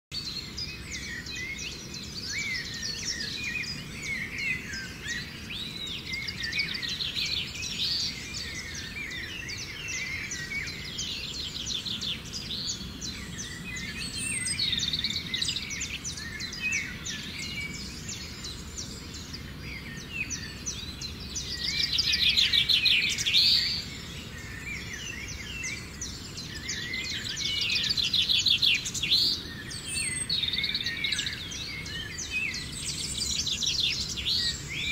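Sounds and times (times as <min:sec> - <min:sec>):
many birds chirping and trilling: 0:00.1 - 0:34.9.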